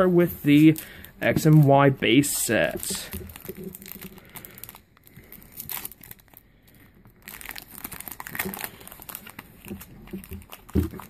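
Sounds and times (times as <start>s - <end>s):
foil wrapper crinkling: 0.5s - 11.0s.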